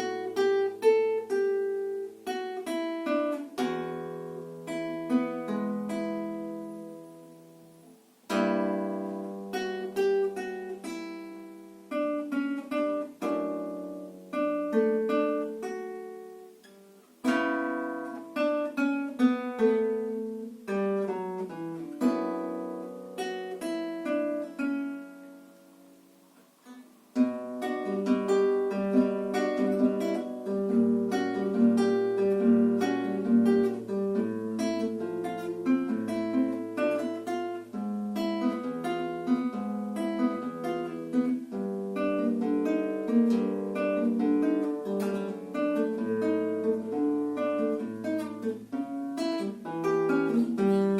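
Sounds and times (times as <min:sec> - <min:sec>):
fingerpicked acoustic guitar: 0:00.0 - 0:50.9.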